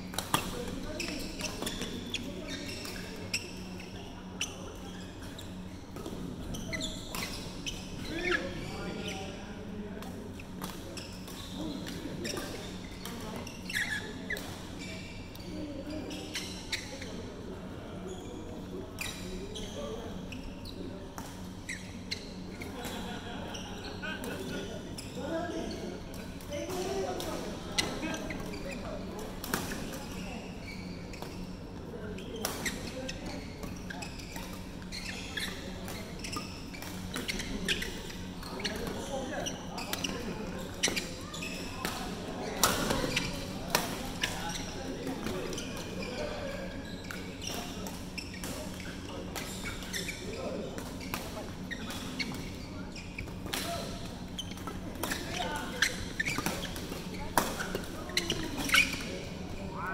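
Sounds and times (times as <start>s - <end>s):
shoe squeaks on court floor: 0.3s - 9.5s, 10.4s - 59.9s.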